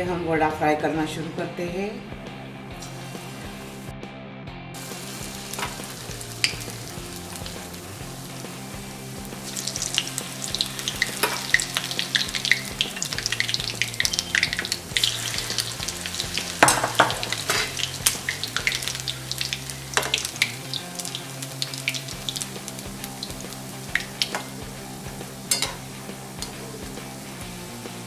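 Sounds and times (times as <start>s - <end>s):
batter deep-frying in oil: 4.8s - 28.0s.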